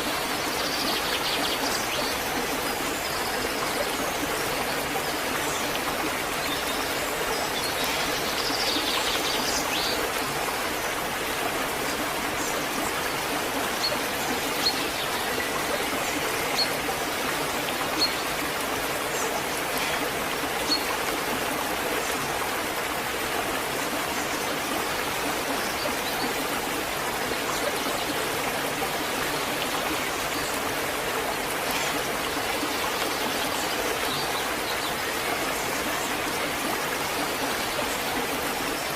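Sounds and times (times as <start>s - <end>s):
waterfall rushing water: 0.0s - 38.9s.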